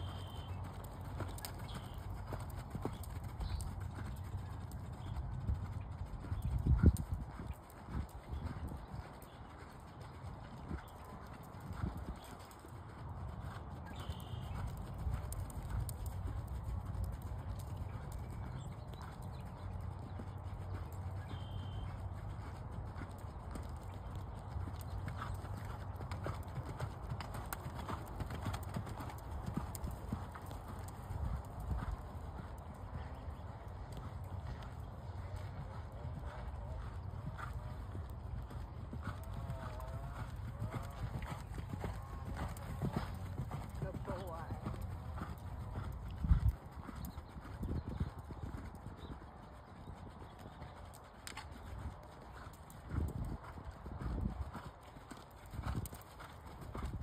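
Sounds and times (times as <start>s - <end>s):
horse hoofbeats trotting on soft ground: 0.0s - 57.0s.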